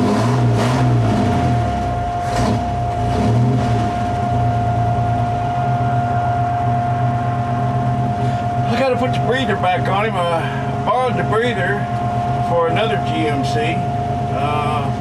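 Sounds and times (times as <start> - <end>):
engine idling: 0.0 - 15.0
steady whine: 0.0 - 15.0.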